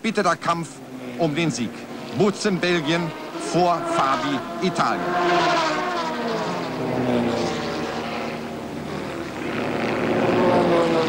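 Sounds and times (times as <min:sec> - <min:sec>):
racing cars passing at high revs: 0:00.3 - 0:11.0.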